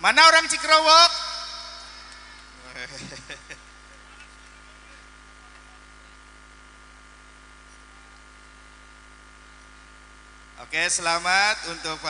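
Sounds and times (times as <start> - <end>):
electrical mains hum: 0.0 - 12.0
faint sound system hiss: 0.0 - 12.0.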